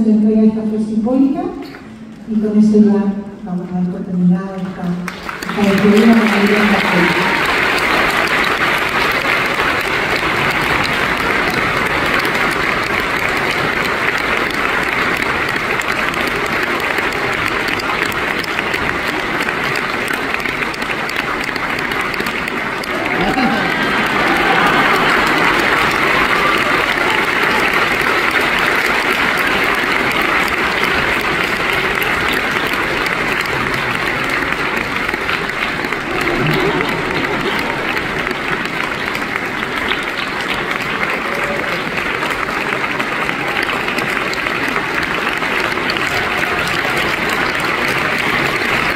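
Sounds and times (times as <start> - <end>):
audience applauding: 4.6 - 48.9.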